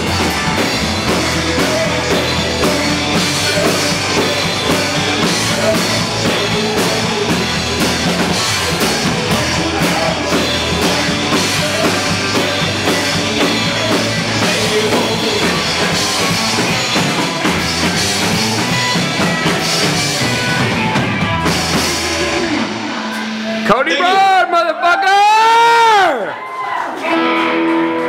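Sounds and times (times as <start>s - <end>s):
drum kit: 0.0s - 23.8s
electric and acoustic guitars: 0.0s - 24.0s, 26.8s - 28.0s.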